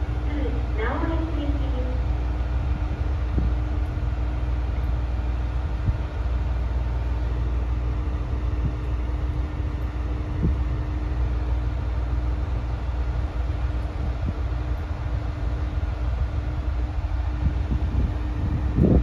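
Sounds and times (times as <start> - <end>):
diesel railcar engine idling: 0.0 - 19.0.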